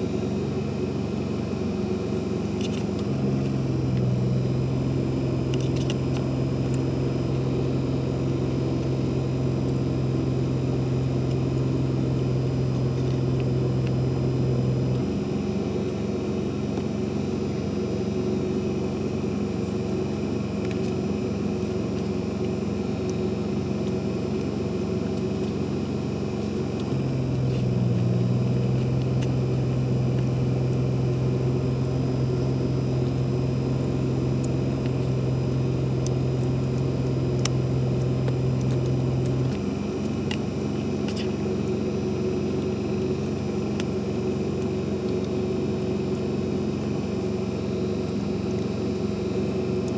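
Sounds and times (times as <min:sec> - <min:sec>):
low engine hum: 0:00.0 - 0:49.9.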